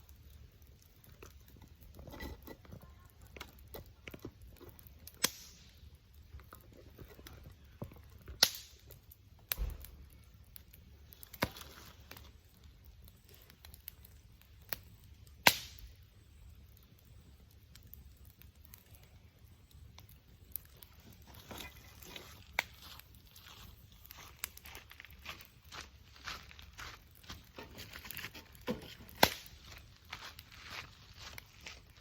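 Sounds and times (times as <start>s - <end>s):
burning wood popping: 0.0s - 32.0s
campfire crackling: 0.0s - 32.0s.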